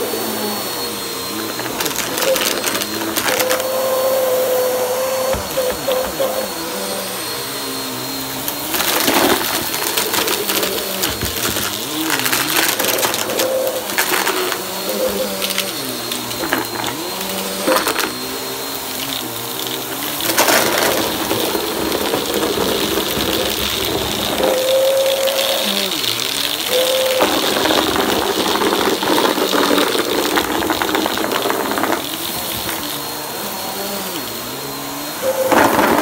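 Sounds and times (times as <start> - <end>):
vacuum cleaner running: 0.0 - 36.0
tissue paper rattling in vacuum: 1.3 - 6.7, 7.7 - 33.2, 35.0 - 36.0.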